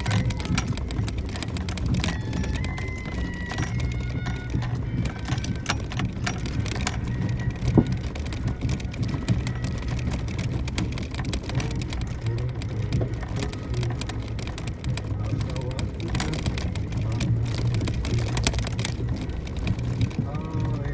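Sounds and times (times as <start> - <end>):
car engine droning: 0.0 - 20.9
tyres crackling on loose stones: 0.0 - 20.9.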